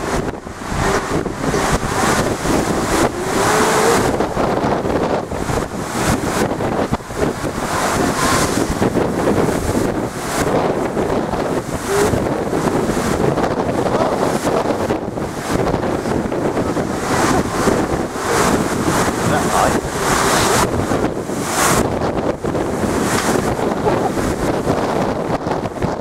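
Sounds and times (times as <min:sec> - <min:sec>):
waves crashing against a wall: 0:00.0 - 0:26.0
wind buffeting microphone: 0:00.0 - 0:26.0.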